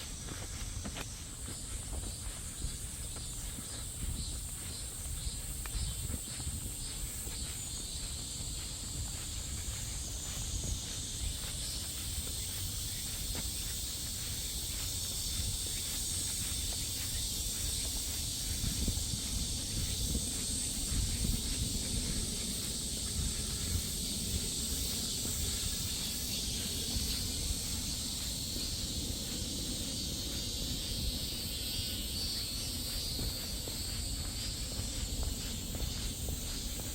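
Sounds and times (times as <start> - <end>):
high-pitched insect chorus: 0.0 - 36.9
low rumble from walking: 0.0 - 36.9.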